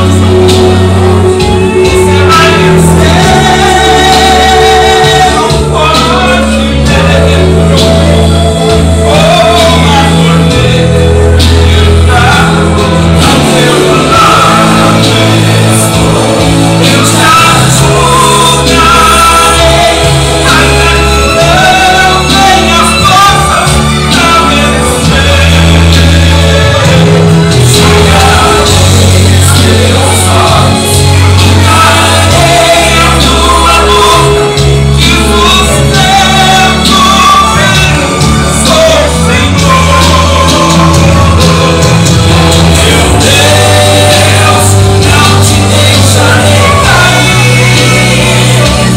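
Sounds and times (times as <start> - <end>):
band playing live music: 0.0 - 48.9
person singing: 0.0 - 48.9
prominent bass line: 0.0 - 48.9.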